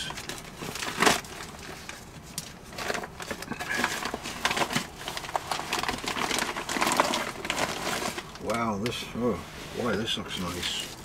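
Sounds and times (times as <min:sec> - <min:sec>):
paper bag rustling and crinkling: 0:00.0 - 0:11.0.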